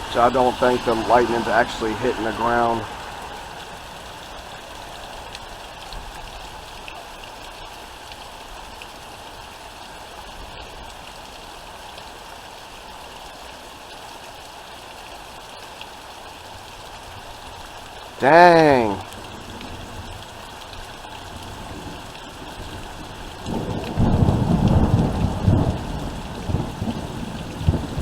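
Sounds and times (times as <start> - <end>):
heavy rain: 0.0 - 28.0.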